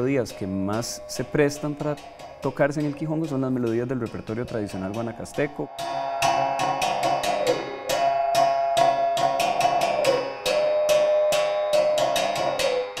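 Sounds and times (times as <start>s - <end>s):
music with percussion beat: 0.0s - 13.0s.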